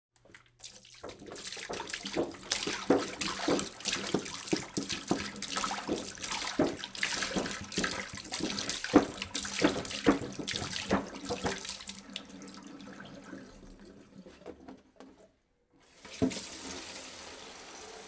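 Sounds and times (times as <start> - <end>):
water pouring and splashing: 0.2 - 14.8, 15.9 - 18.0.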